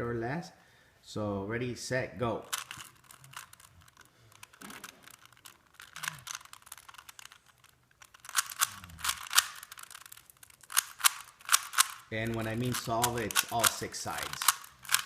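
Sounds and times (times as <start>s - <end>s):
puzzle cube clicking and rattling: 2.4s - 15.0s.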